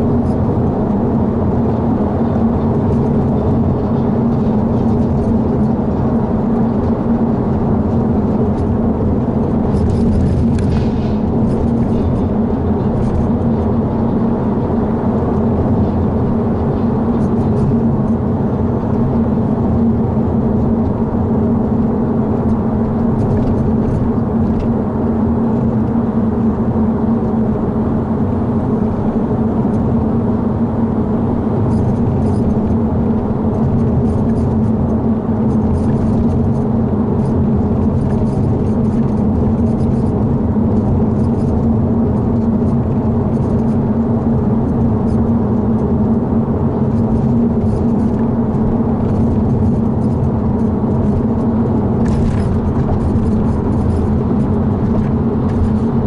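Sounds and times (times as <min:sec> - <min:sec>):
road and engine noise in car: 0:00.0 - 0:56.0.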